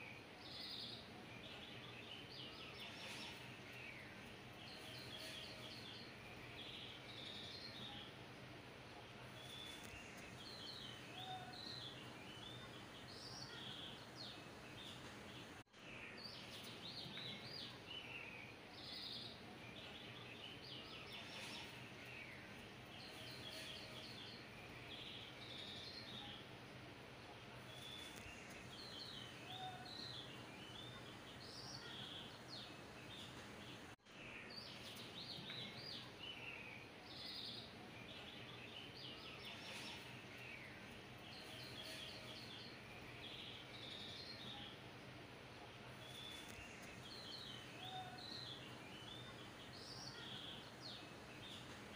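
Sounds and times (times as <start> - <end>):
faint birdsong: 0.0 - 51.9
steady low hiss: 0.0 - 51.9.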